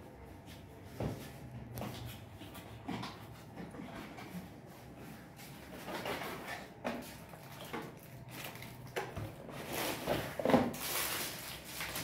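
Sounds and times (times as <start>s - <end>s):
cardboard and plastic scraping: 1.9s - 12.0s.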